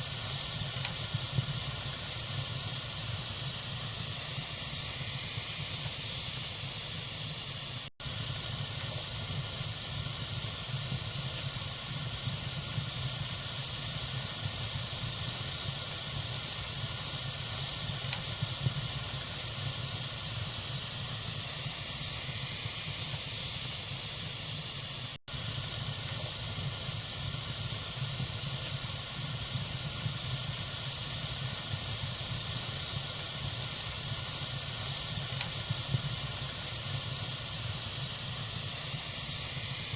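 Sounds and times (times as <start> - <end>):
fire crackling: 0.0 - 39.9
wood fire hissing: 0.0 - 39.9.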